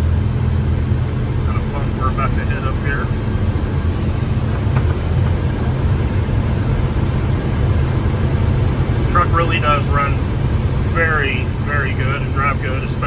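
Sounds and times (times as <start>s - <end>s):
road noise: 0.0s - 13.0s
truck diesel engine rumble: 0.0s - 13.0s.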